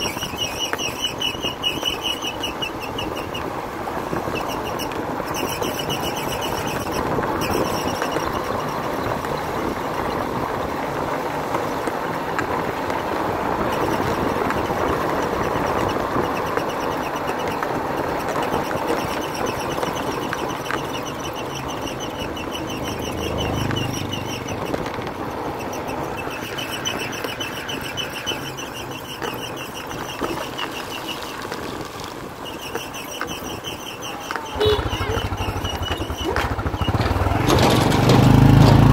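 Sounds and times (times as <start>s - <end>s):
road and wind noise: 0.0s - 38.9s
motorbike engine running: 2.0s - 38.9s.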